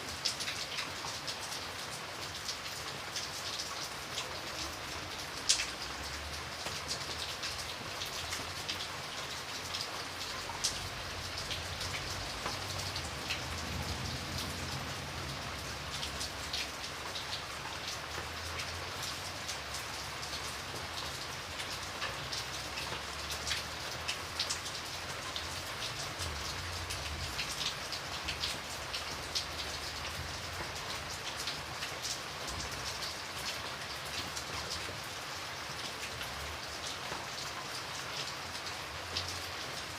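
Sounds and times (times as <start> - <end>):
rain hiss: 0.0 - 39.9
raindrops ticking on a surface: 0.0 - 39.9.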